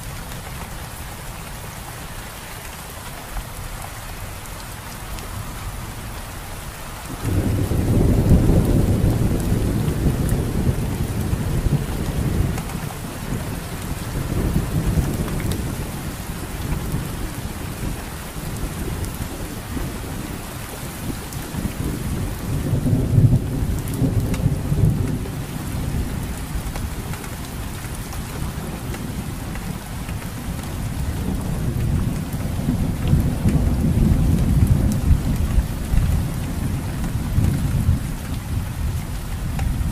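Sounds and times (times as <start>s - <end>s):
steady rain falling: 0.0s - 39.9s
thunder rumbling: 7.0s - 27.6s, 28.4s - 39.9s.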